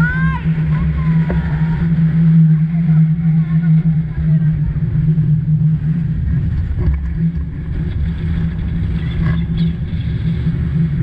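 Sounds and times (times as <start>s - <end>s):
water rushing: 0.0s - 11.0s
wind buffeting camera: 0.0s - 11.0s.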